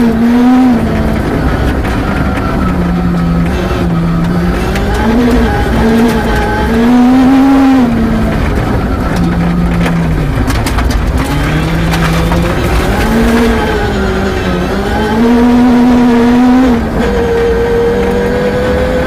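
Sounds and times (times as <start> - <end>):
rally car engine revving: 0.0 - 19.0
gravel clattering against underside: 0.1 - 15.8.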